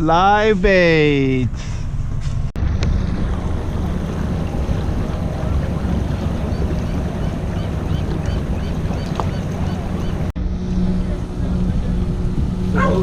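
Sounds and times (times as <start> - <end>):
boat engine rumble: 0.0 - 13.0
wind on microphone: 2.5 - 13.0.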